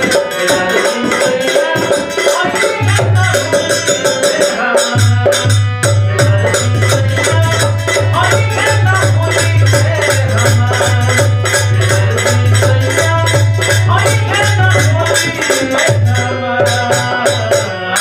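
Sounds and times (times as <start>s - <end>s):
folk music with drum beat: 0.0s - 18.0s.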